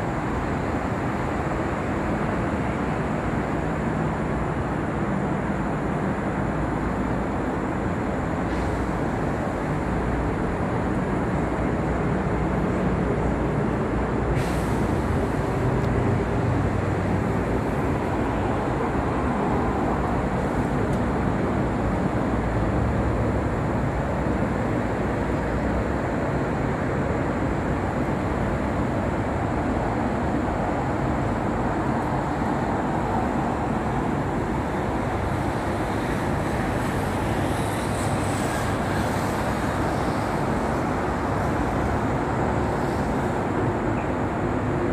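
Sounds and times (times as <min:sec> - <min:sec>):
distant road traffic hum: 0:00.0 - 0:44.9.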